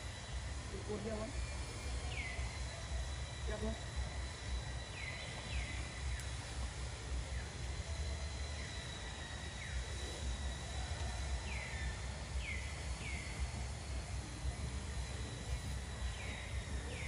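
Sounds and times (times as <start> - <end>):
steady low rumble: 0.0 - 17.0
thin high whine: 0.0 - 17.0.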